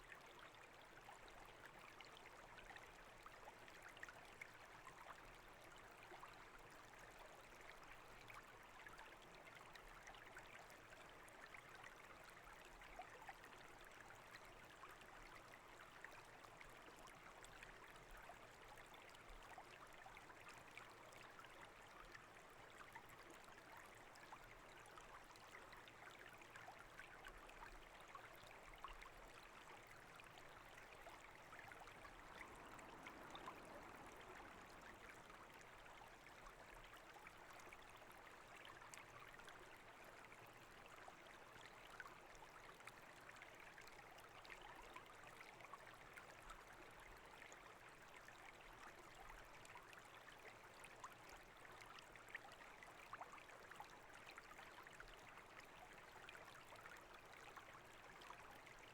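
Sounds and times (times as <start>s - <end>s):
brook running water: 0.0s - 58.9s.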